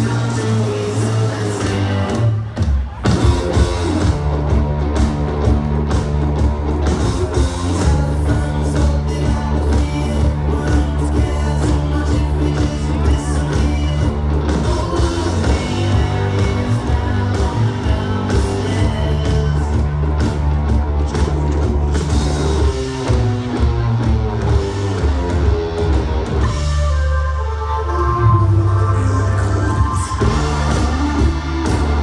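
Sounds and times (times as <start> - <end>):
drum kit: 0.0 - 32.0
electric guitar: 0.0 - 32.0
heavy bass line: 0.0 - 32.0.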